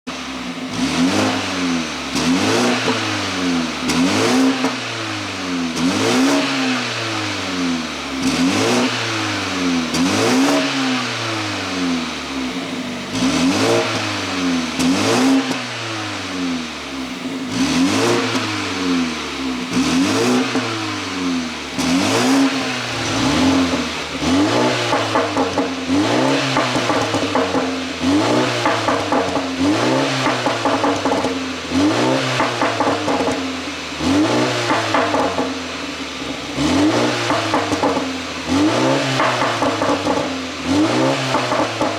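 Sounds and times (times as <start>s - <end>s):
car engine revving: 0.1s - 41.9s
exhaust crackling and popping: 5.7s - 15.6s, 16.9s - 41.9s.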